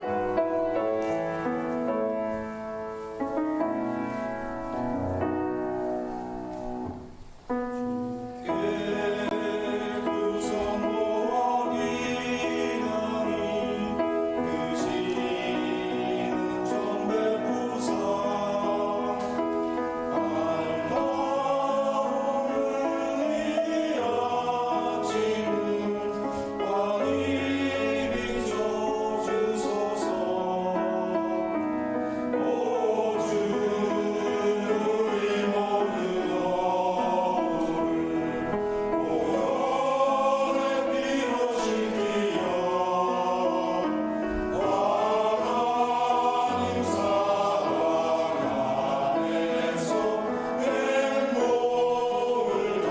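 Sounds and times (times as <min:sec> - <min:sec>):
choir singing a hymn: 0:00.0 - 0:52.9.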